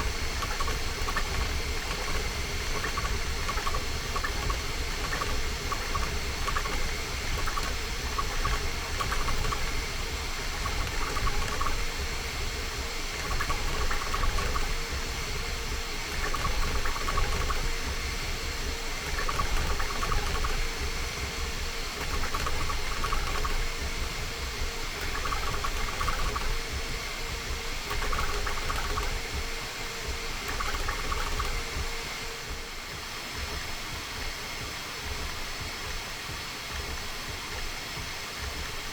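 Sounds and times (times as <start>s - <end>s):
printer fan whir: 0.0s - 38.9s
printer motor whine: 0.0s - 38.9s.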